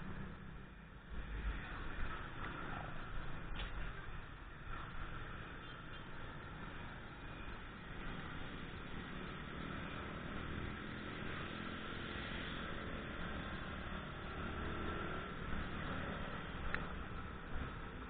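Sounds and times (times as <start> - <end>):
wind and road noise: 0.0 - 18.0.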